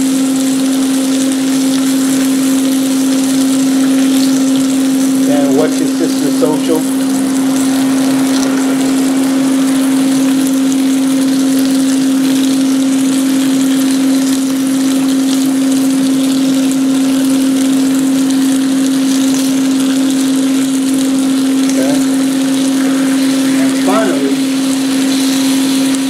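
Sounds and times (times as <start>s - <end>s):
air fryer fan humming: 0.0s - 26.0s
meat sizzling on griddle: 0.0s - 26.0s.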